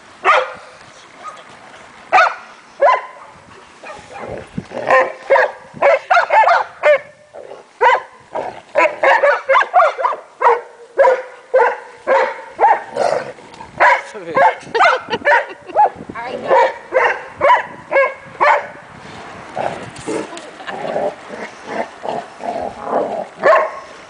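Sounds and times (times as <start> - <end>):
dogs barking in play: 0.2 - 1.5, 2.1 - 18.8, 19.6 - 24.0.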